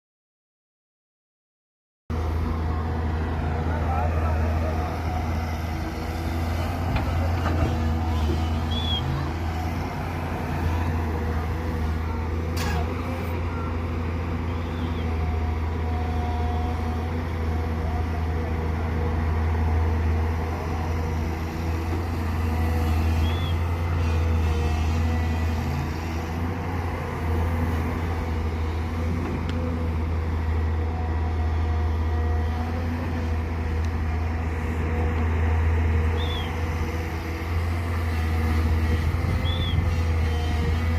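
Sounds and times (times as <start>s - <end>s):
excavator diesel engine humming: 2.1s - 40.9s.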